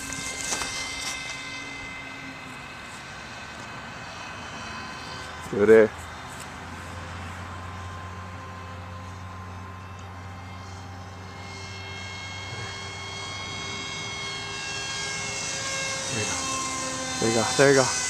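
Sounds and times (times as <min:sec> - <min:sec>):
rc plane motor whine: 0:00.0 - 0:18.0.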